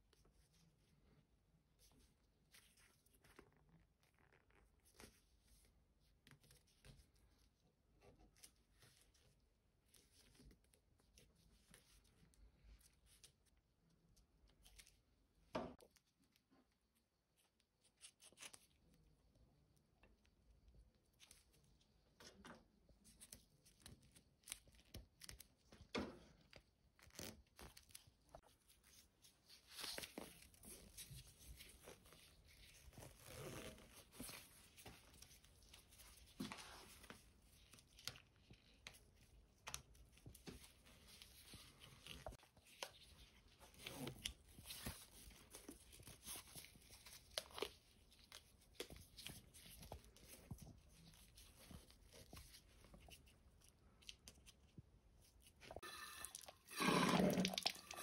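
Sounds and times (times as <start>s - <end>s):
hands wrapping cord rustling: 0.0s - 58.0s.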